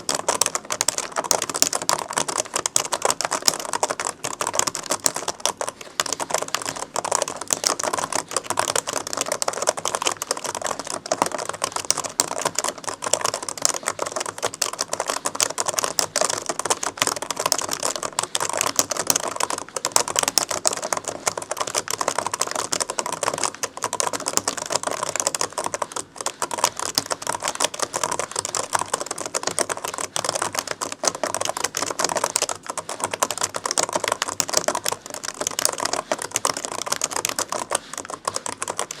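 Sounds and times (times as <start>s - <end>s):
fast laptop keyboard typing: 0.0s - 39.0s.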